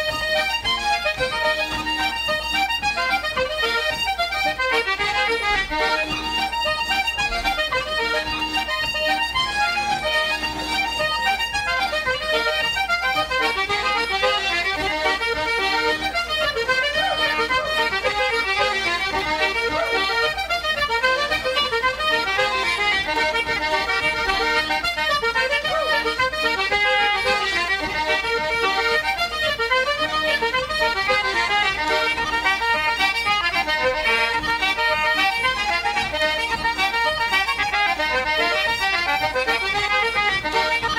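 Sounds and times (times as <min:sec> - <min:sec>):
accordion and concertina dance music: 0:00.0 - 0:40.9.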